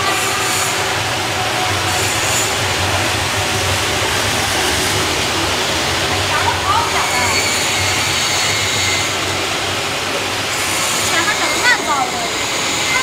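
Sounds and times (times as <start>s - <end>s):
industrial machine whirring: 0.0s - 13.0s.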